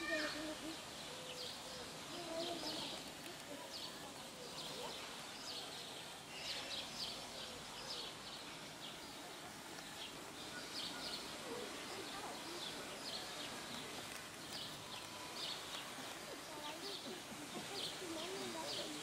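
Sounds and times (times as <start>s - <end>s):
faint outdoor hiss: 0.0s - 19.0s
small birds chirping: 0.0s - 19.0s.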